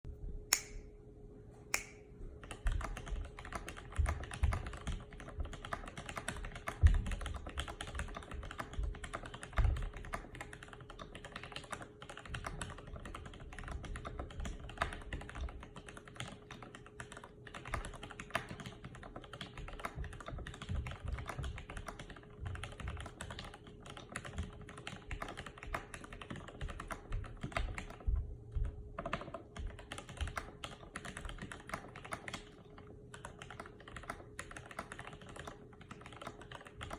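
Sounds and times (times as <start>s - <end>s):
mechanical keyboard typing: 2.4s - 36.9s.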